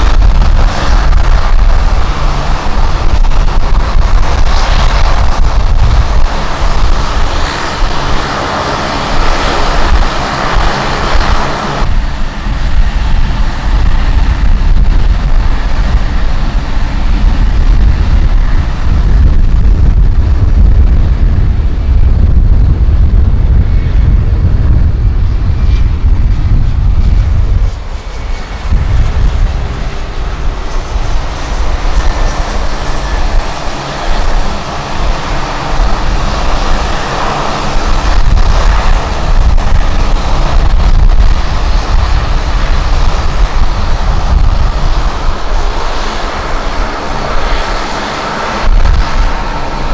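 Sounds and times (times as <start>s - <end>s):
jet engine low rumble: 0.0s - 49.9s.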